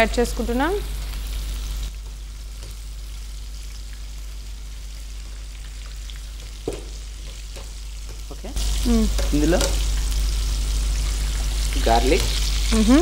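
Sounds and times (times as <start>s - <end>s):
oil hissing in pan: 0.0s - 13.0s.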